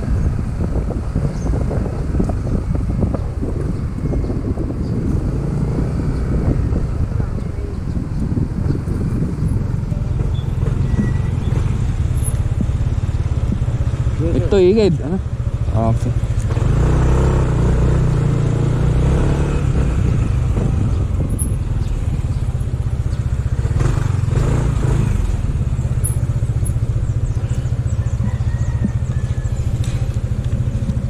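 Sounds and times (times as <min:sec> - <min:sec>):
motor scooter engine rumbling: 0:00.0 - 0:31.0.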